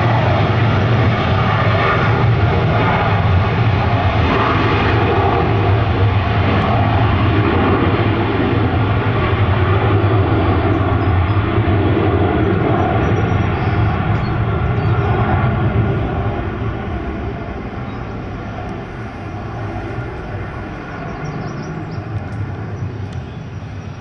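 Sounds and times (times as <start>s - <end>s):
jet taking off: 0.0s - 24.0s.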